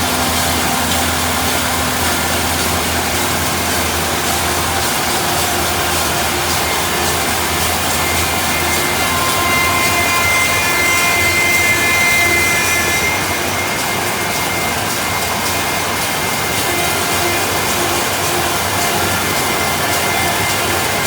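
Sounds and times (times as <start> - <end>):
sawmill saw roaring: 0.0 - 21.0.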